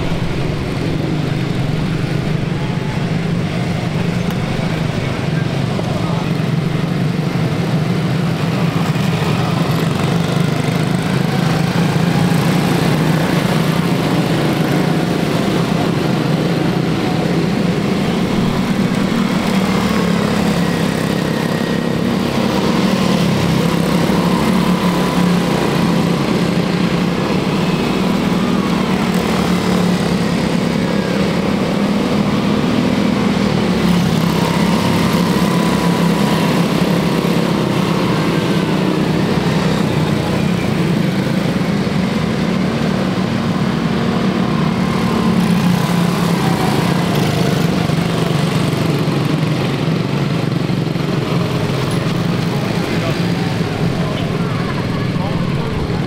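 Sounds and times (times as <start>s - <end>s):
small race car engines buzzing: 0.0s - 56.0s.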